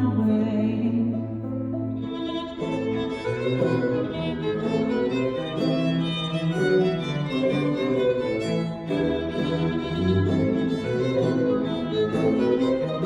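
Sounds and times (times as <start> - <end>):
violin melody: 0.0 - 13.0
low sustained accompanying notes: 2.1 - 13.0.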